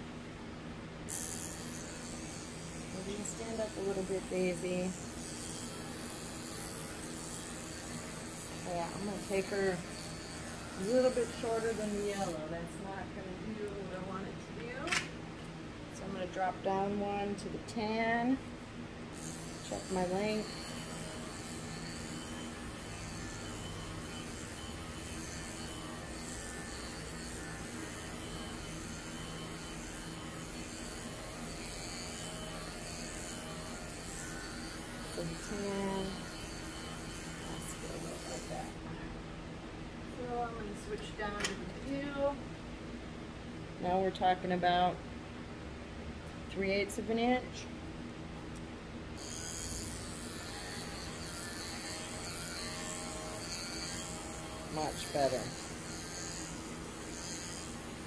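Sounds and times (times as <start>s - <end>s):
pet clipper buzzing: 1.0s - 18.4s, 19.1s - 39.0s, 40.5s - 42.4s, 48.5s - 58.0s.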